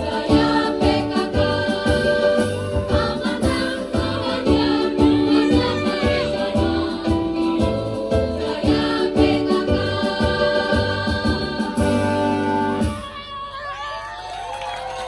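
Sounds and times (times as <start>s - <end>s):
steady bass beat: 0.0s - 12.9s
women's choir singing: 0.0s - 13.0s.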